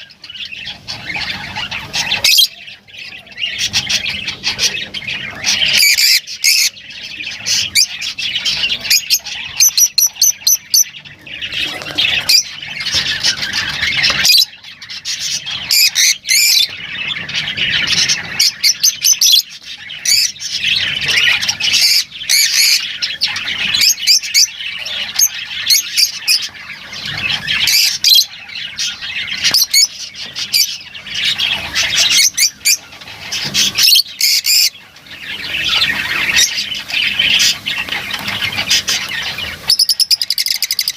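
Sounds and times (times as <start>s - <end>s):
lovebirds chattering and squawking: 0.0s - 40.9s.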